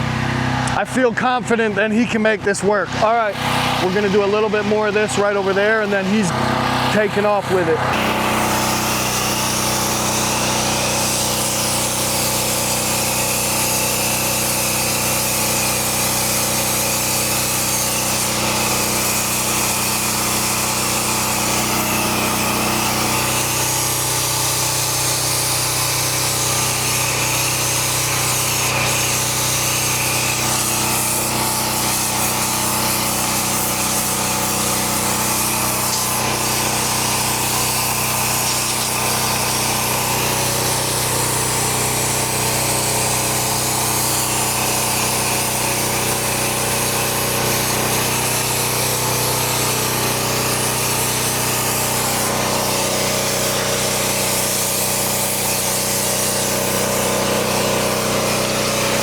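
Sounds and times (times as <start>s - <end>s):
pressure washer engine running: 0.0s - 59.0s
water jet hissing on concrete: 3.1s - 59.0s.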